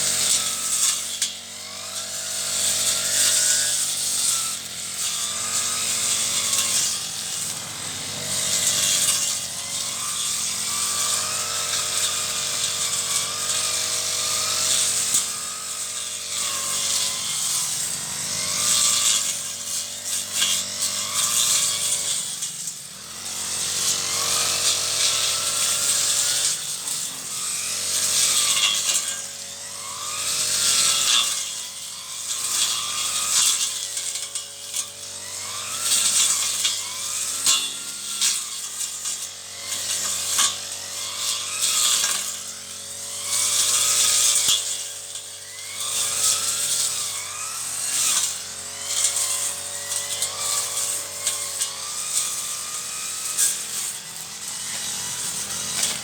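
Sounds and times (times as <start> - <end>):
brush cutter engine cutting weeds: 0.0 - 56.0.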